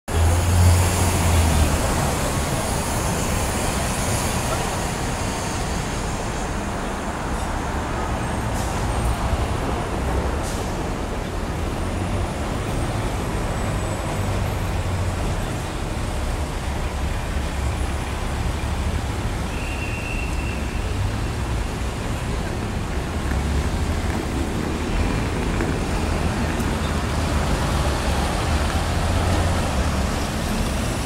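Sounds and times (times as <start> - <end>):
city street traffic rumble: 0.1 - 31.0
street hiss: 0.1 - 31.0.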